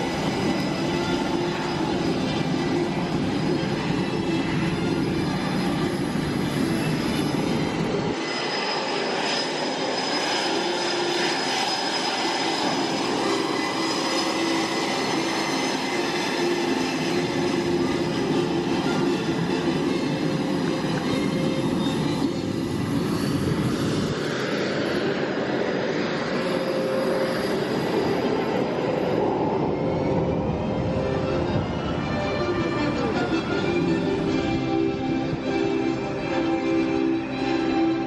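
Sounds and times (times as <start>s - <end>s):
aircraft turbine engines whining: 0.0s - 38.0s.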